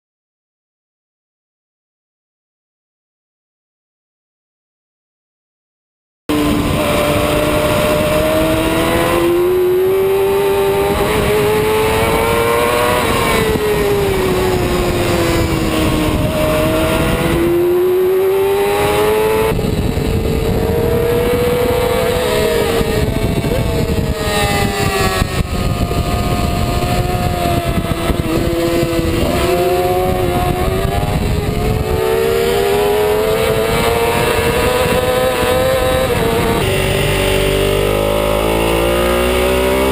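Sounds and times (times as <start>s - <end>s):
motorcycle engine revving: 6.3s - 39.9s.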